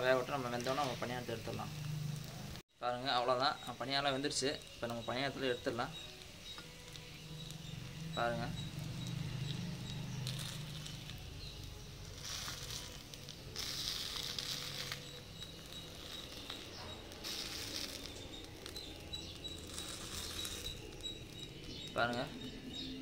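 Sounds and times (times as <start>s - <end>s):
hot oil sizzling in a pan: 0.0s - 23.0s.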